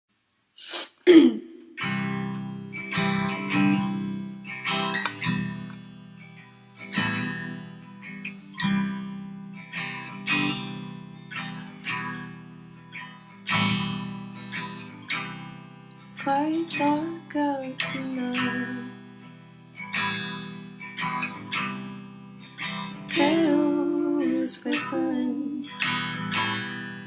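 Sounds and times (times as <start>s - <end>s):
guitar chords strummed slowly: 1.7s - 27.0s.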